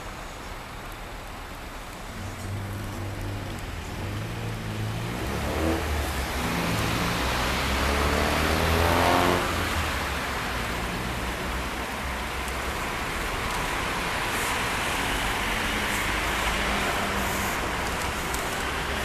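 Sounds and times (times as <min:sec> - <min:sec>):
road hiss: 0:00.0 - 0:19.0
vehicles driving past: 0:00.2 - 0:19.0.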